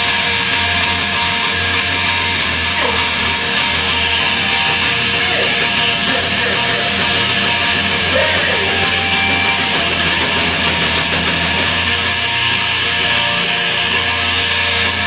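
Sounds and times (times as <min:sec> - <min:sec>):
rock band with distorted guitars: 0:00.0 - 0:15.0.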